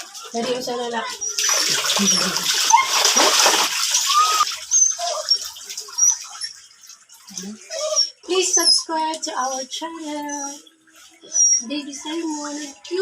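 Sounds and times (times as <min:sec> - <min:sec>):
running water splashing: 0:00.0 - 0:13.0.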